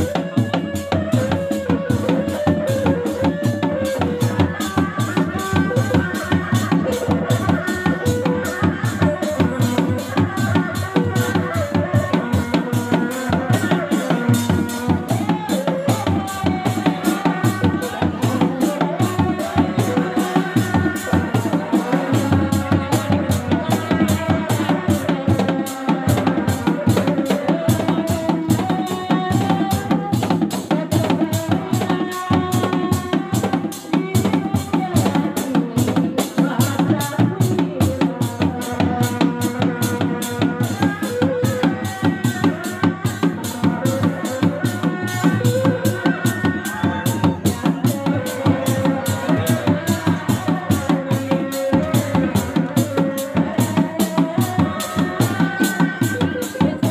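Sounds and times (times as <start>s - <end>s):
frame drums beating: 0.0s - 56.9s.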